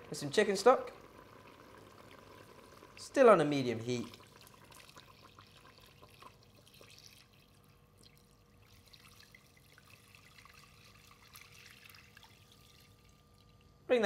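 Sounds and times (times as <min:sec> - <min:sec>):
liquid pouring into pot: 0:00.0 - 0:13.8.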